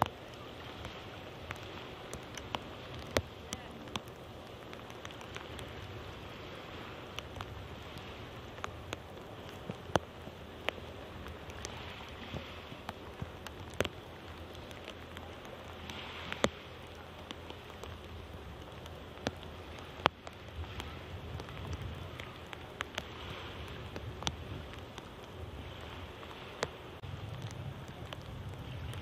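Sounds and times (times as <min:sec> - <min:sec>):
low rumble: 0:00.0 - 0:29.0
raindrops ticking: 0:00.0 - 0:29.0
steady rain hiss: 0:00.0 - 0:29.0.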